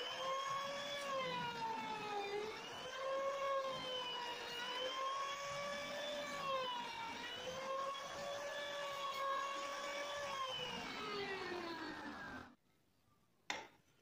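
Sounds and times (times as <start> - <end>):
router spindle motor whining: 0.0 - 12.6.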